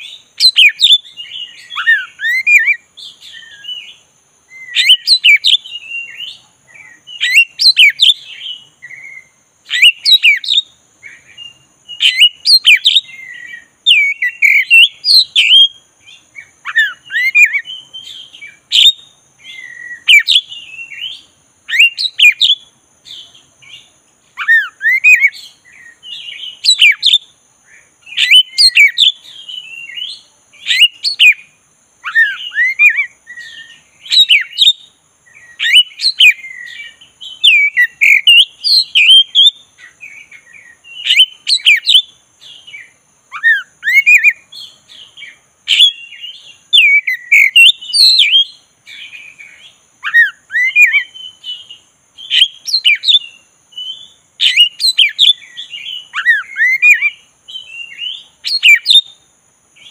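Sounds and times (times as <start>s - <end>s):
bird singing whistled phrases: 0.0s - 27.3s, 28.1s - 59.2s.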